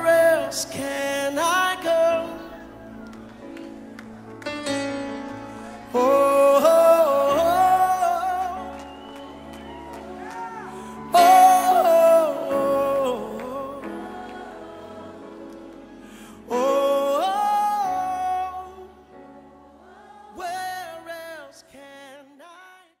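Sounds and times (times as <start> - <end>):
gospel singing with accompaniment: 0.0 - 4.3, 4.9 - 22.7.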